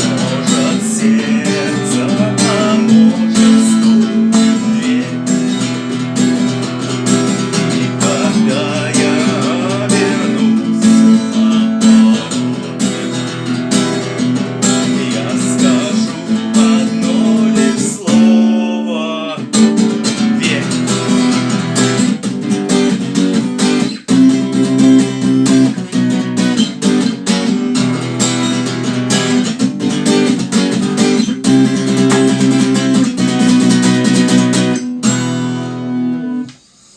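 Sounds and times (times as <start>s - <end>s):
acoustic guitar strummed and plucked: 0.0s - 36.9s.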